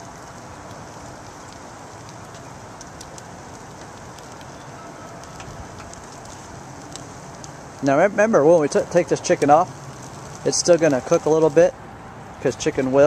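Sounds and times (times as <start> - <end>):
chicken sizzling on a grill: 0.0 - 13.0.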